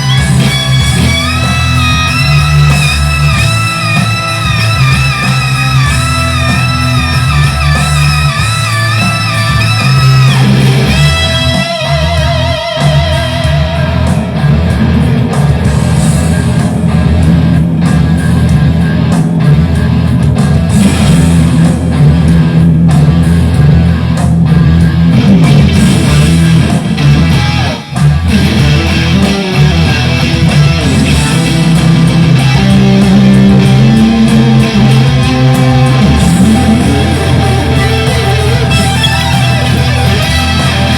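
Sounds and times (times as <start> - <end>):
electric guitar riffing: 0.0 - 40.9.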